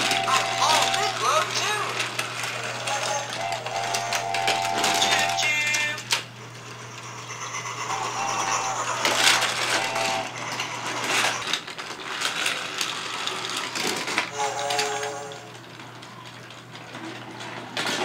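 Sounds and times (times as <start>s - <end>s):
toy train rattling on plastic track: 0.0s - 18.0s.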